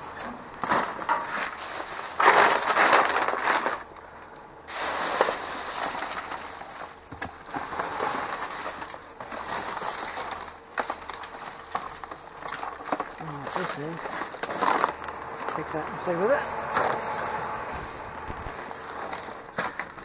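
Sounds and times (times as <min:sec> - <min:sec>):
rustling trash bags: 0:00.0 - 0:20.0.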